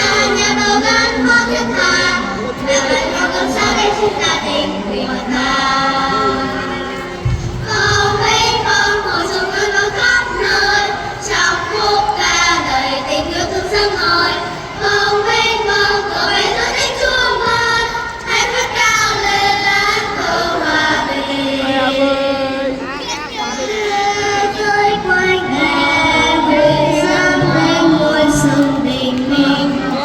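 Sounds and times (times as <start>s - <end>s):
children's choir singing: 0.0s - 30.0s.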